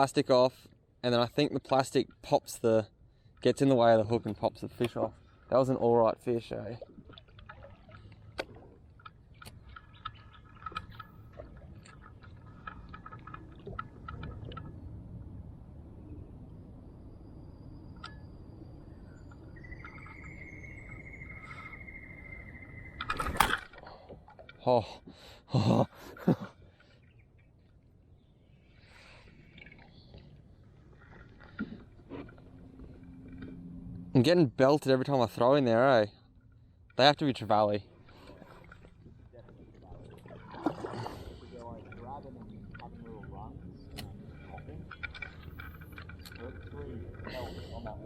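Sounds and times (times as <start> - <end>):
low steady rumble: 0.8 - 24.4, 27.2 - 48.0.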